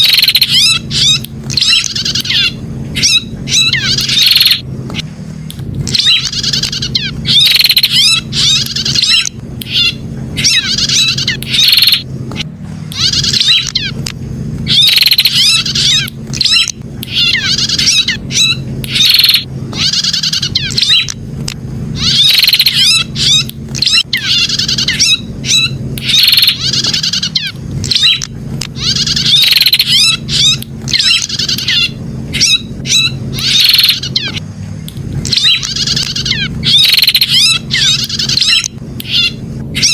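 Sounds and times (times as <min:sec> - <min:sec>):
bird chirping rapidly: 0:00.0 - 0:04.7, 0:05.9 - 0:21.2, 0:22.0 - 0:34.5, 0:35.2 - 0:39.9
steady low hum: 0:00.0 - 0:39.9.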